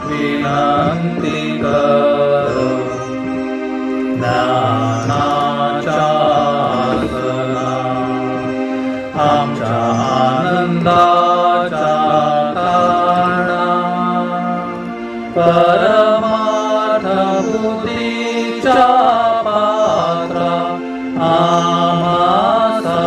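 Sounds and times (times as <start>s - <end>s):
slow devotional singing: 0.0s - 23.0s.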